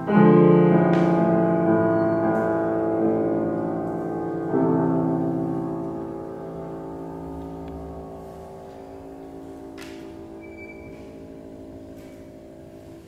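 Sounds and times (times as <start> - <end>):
piano chord sustained: 0.0 - 13.0.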